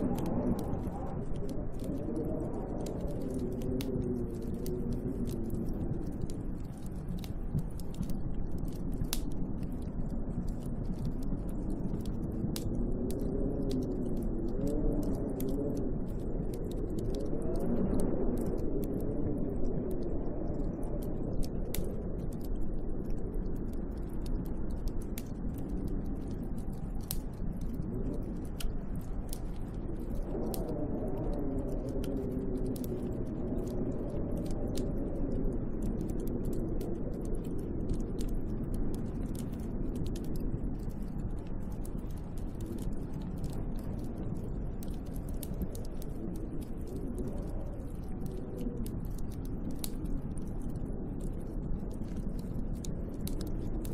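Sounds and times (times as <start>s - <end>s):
small sharp ticks: 0.0s - 53.9s
wind howling: 0.0s - 53.9s.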